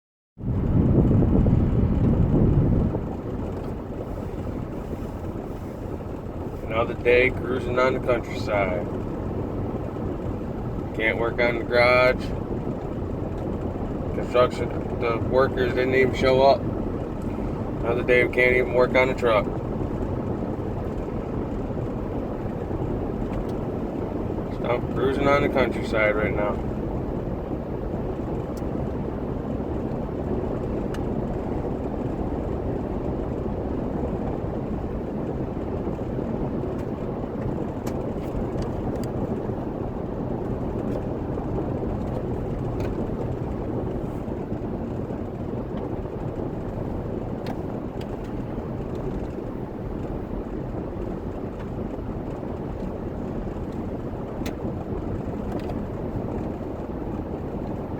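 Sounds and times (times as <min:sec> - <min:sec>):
vehicle road and engine noise: 0:00.4 - 0:57.9.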